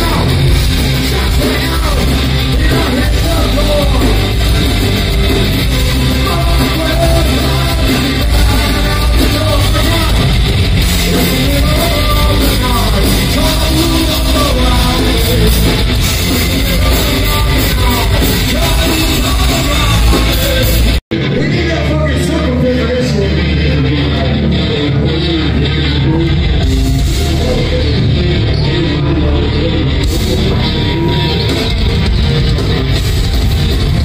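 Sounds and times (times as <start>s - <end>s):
live heavy rock music: 0.0s - 34.0s
vocalist singing and yelling: 0.0s - 34.0s.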